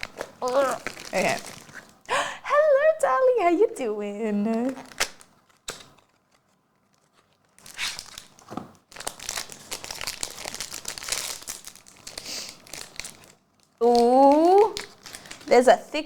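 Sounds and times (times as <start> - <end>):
foil wrapper tearing and crinkling: 0.0 - 2.1, 4.5 - 16.0.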